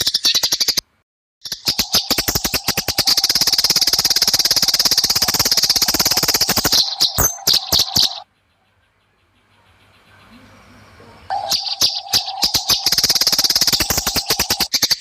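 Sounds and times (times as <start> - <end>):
sparrows chattering: 1.4 - 15.0.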